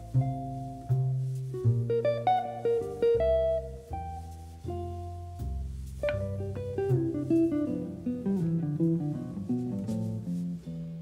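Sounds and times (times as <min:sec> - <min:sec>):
bass line: 0:00.0 - 0:11.0
plucked guitar music: 0:00.0 - 0:11.0.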